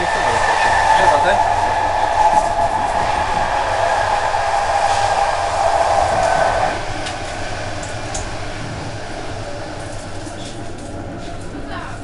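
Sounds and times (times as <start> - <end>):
train running rumble and hiss: 0.0 - 12.0
train whine: 0.0 - 12.0.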